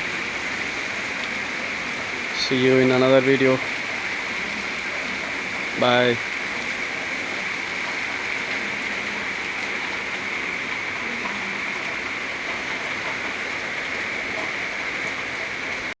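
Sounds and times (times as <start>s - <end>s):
heavy rain on ground and puddles: 0.0s - 16.0s.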